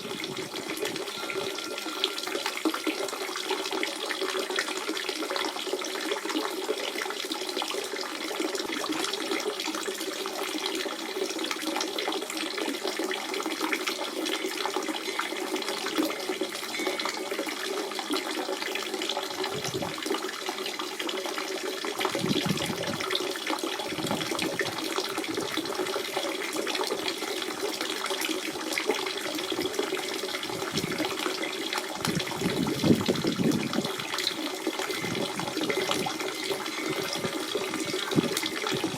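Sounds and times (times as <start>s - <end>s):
spring water running and splashing: 0.0s - 38.9s
water gurgling: 0.0s - 38.9s.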